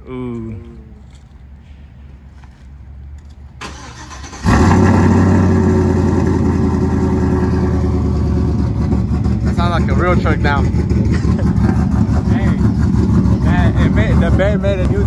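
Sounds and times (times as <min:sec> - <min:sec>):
truck engine starting and idling: 0:01.1 - 0:15.0.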